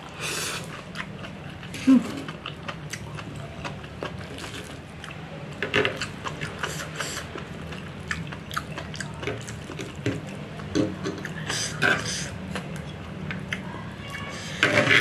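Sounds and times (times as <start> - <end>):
wet chewing: 0.1 - 14.2.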